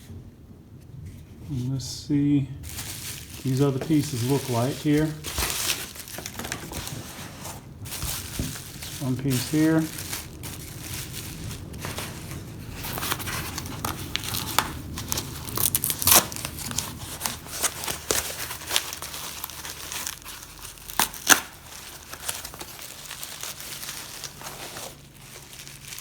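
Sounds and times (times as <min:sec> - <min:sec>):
packing wrap crinkling and tearing: 0:02.6 - 0:26.0.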